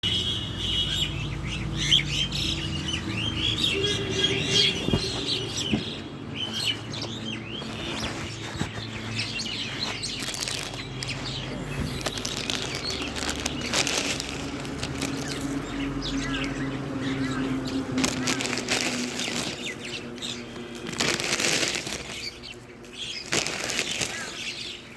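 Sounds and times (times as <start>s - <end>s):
small bird chirping: 0.1s - 24.9s.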